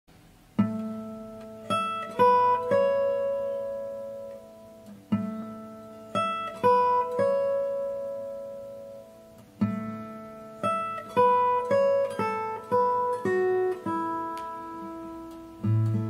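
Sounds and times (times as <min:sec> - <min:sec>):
acoustic guitar plucked chords: 0:00.1 - 0:16.0.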